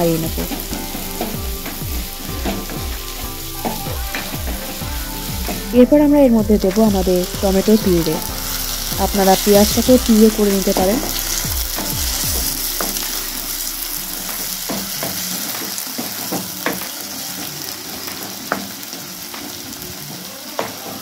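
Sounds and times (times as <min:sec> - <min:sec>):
puree sizzling in hot oil: 0:00.0 - 0:21.0.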